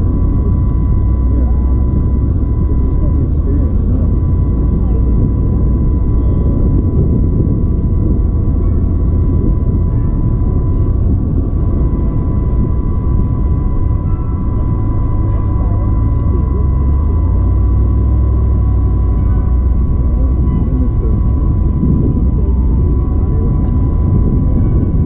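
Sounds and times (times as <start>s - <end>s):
road rumble: 0.0s - 25.0s
thin steady whine: 0.0s - 25.0s
wind on microphone: 0.0s - 25.0s.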